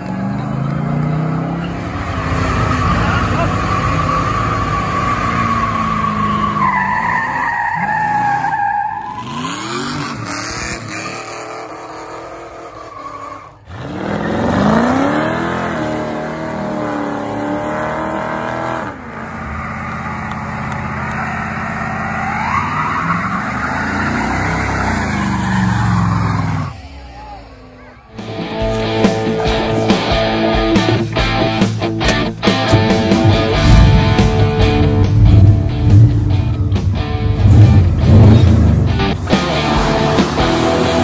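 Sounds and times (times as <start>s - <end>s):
car engines revving hard: 0.0s - 26.9s, 28.1s - 41.0s.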